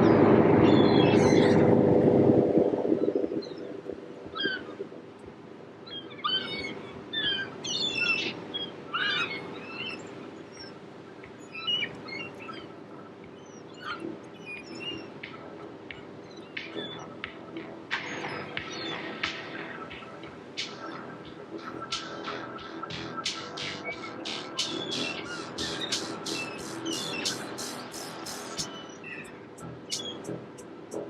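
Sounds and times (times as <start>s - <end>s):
faint steady hum: 0.0s - 31.0s
small birds chirping: 5.8s - 31.0s.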